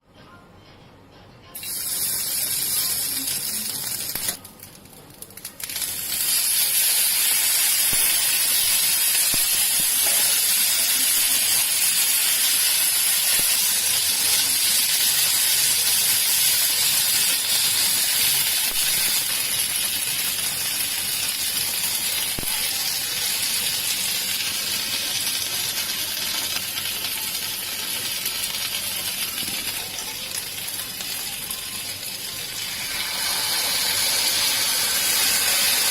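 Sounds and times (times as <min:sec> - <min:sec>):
sizzler platter hissing: 0:01.6 - 0:35.9.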